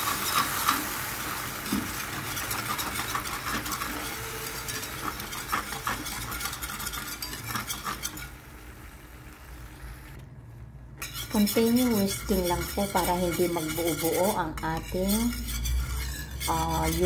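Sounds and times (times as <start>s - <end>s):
whisk scraping against pan: 0.0s - 8.4s, 11.0s - 17.0s
soft sizzle: 0.0s - 17.0s.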